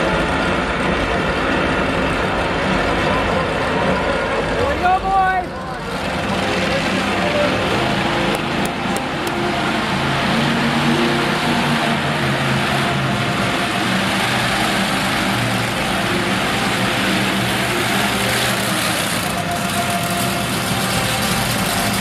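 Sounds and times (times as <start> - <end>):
broad wash of noise: 0.0 - 22.0
monster truck engine running: 0.0 - 22.0.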